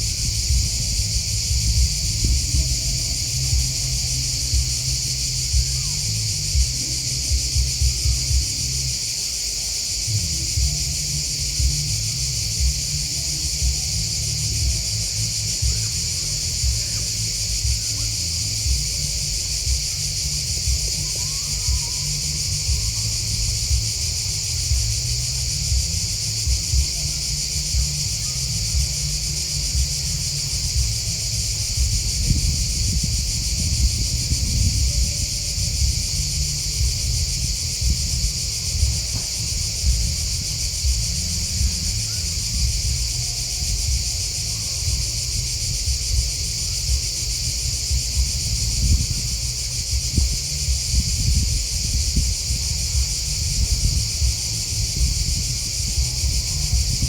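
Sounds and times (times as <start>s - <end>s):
low rumble: 0.0s - 9.0s, 9.6s - 57.0s
insects chirping: 0.0s - 57.0s.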